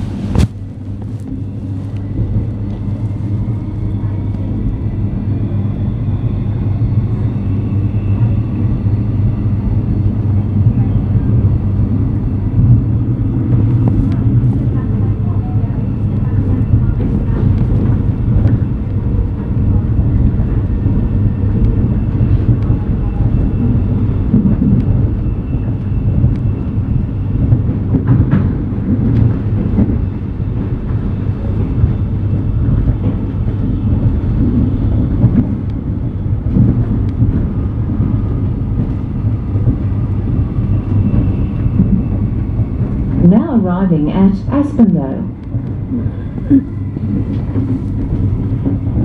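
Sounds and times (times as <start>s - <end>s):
train rumble inside carriage: 0.0s - 49.0s.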